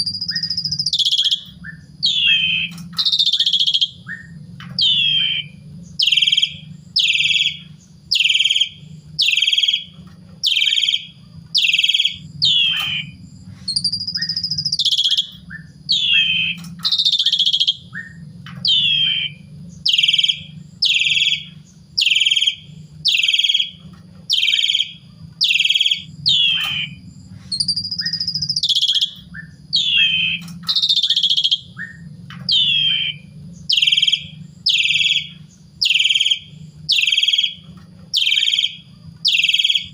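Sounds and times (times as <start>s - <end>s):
bird chirping: 0.0s - 39.9s
bird whistle rising and falling: 0.0s - 39.9s
low hum: 0.0s - 39.9s.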